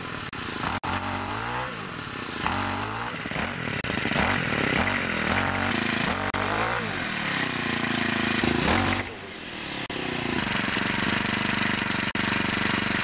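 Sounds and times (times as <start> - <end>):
string trimmer engine revving: 0.0 - 13.0.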